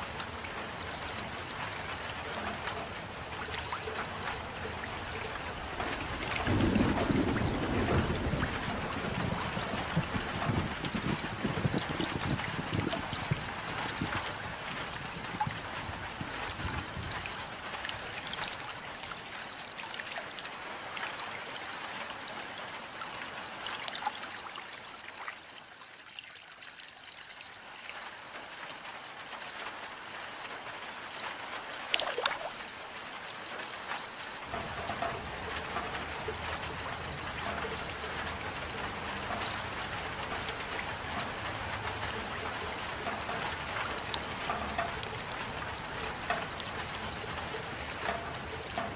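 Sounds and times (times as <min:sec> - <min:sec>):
rain falling steadily: 0:00.0 - 0:48.9
trickling water: 0:00.0 - 0:48.9.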